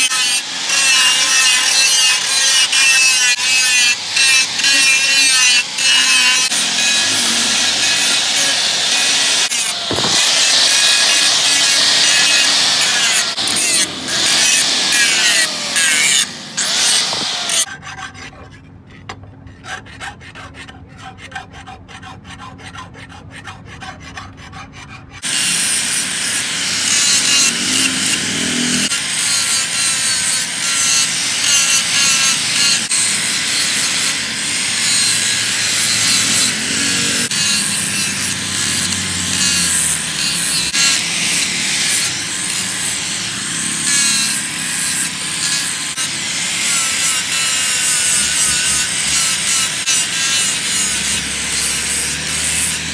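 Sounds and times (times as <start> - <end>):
angle grinder grinding steel: 0.0 - 52.9
hand file rasping on blade: 0.0 - 52.9.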